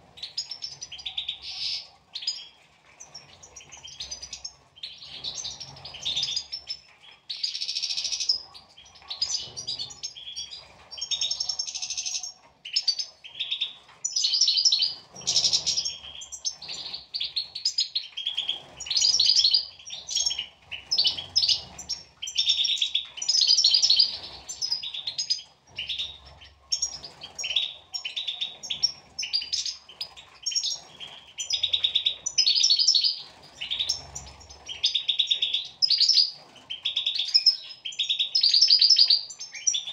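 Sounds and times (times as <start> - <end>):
goldfinches chirping and trilling: 0.0 - 39.9.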